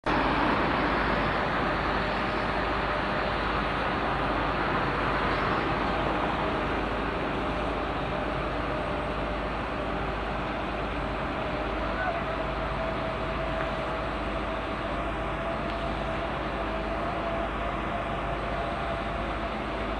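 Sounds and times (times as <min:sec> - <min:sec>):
heavy machinery engines running: 0:00.0 - 0:19.9
thin steady whine: 0:00.0 - 0:19.9.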